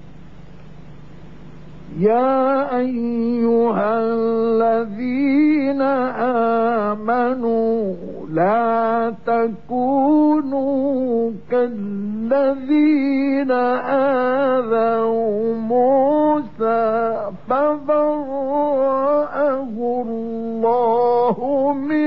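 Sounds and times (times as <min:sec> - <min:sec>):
man chanting melodically: 0:01.9 - 0:22.0.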